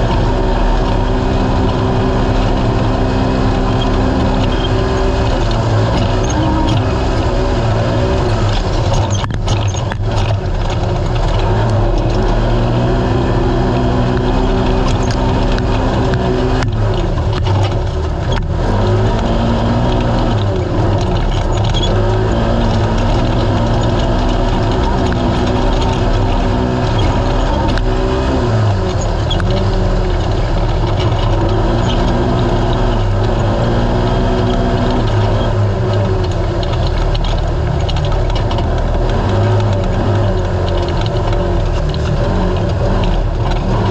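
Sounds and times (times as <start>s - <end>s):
engine running hard: 0.0s - 43.9s.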